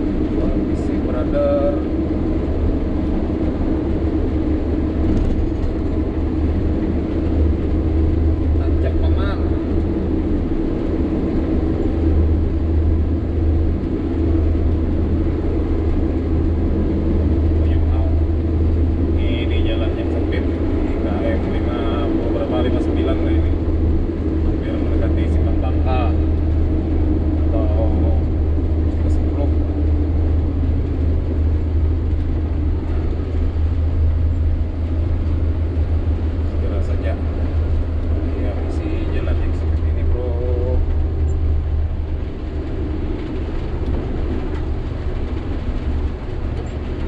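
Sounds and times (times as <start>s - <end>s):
road noise: 0.0s - 47.0s
truck diesel engine under load: 0.0s - 47.0s.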